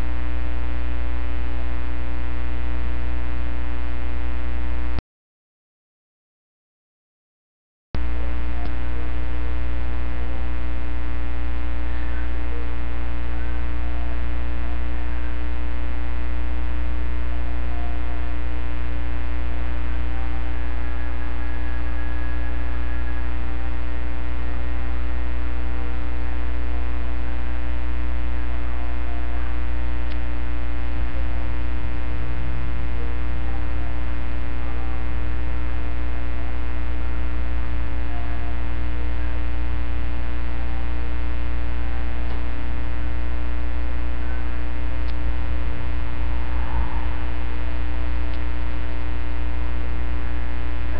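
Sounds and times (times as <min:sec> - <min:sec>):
electrical mains hum: 0:00.0 - 0:05.0, 0:08.0 - 0:50.9.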